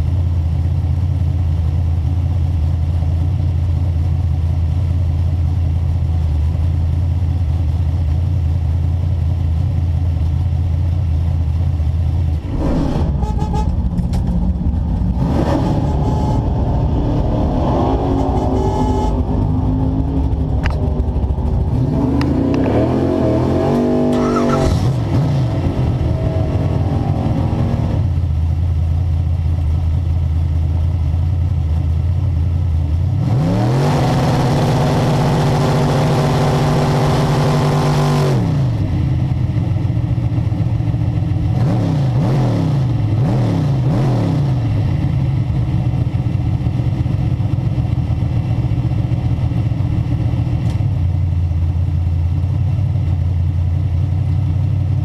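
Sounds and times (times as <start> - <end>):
race car engine idling and revving: 0.0 - 55.0.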